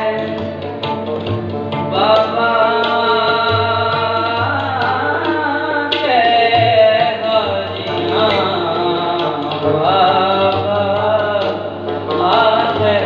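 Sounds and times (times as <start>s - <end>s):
person singing: 0.0s - 0.6s, 1.9s - 13.0s
harmonium tones: 0.0s - 13.0s
tabla strokes: 0.0s - 13.0s.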